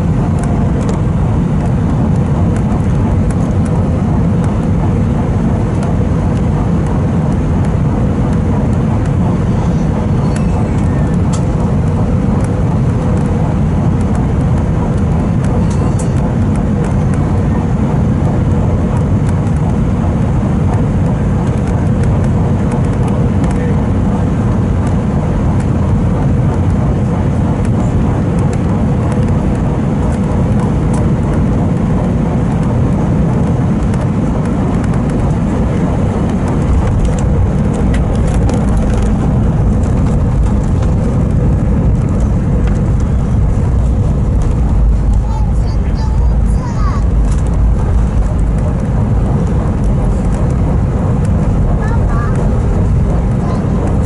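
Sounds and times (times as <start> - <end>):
low rumble of engines and airflow: 0.0 - 54.0.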